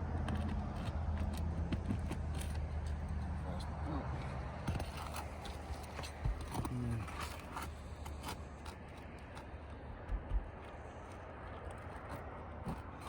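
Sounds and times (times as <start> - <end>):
tool scraping up shingles: 0.2 - 13.0.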